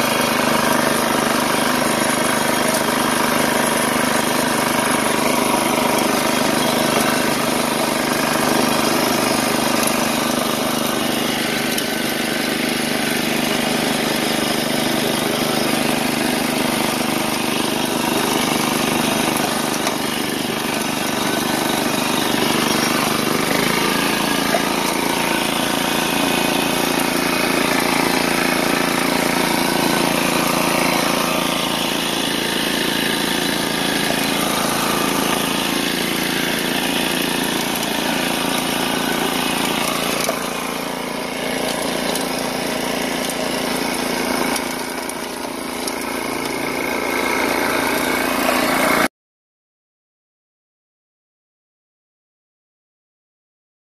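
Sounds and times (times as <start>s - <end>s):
snowblower engine running: 0.0s - 49.1s.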